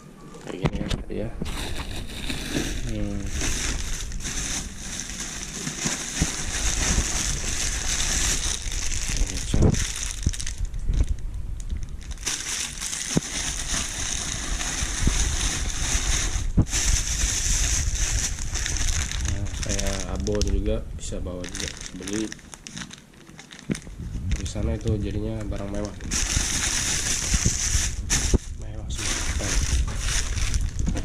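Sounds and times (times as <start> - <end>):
plastic wrapping rustling: 1.4 - 31.0.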